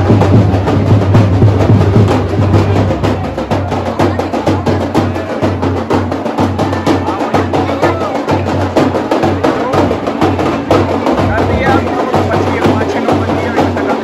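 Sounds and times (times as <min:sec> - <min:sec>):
crowd noise: 0:00.0 - 0:14.0
deep drum beating: 0:00.0 - 0:14.0
sharp drum strokes: 0:00.0 - 0:14.0.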